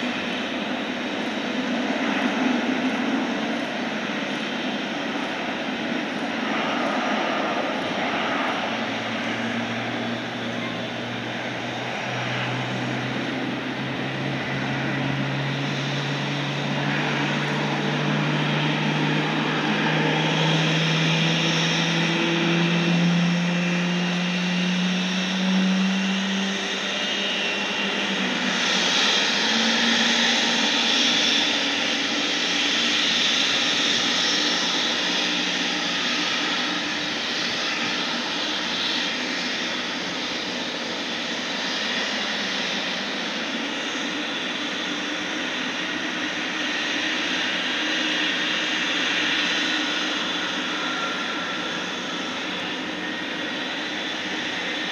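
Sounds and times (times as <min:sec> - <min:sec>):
jet engine spooling up whine: 0:00.0 - 0:54.9.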